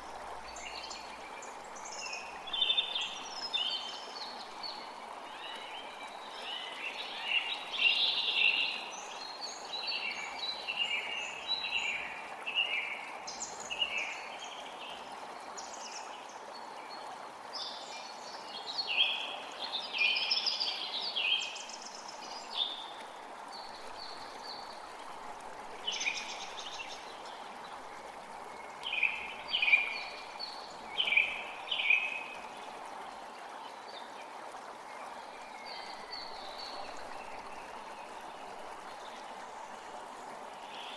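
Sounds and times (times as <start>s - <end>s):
creek running: 0.0s - 40.9s
songbirds chirping: 0.3s - 40.9s.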